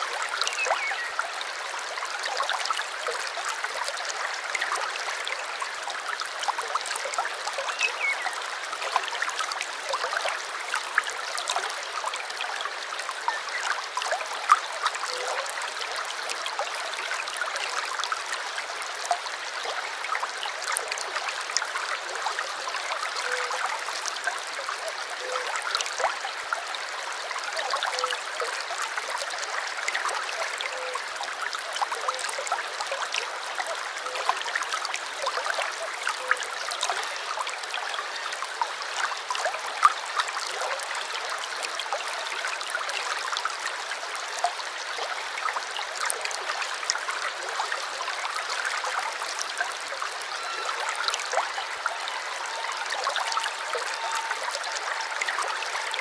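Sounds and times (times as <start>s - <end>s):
brook trickling and gurgling: 0.0s - 56.0s
water splashes and drips: 0.0s - 56.0s.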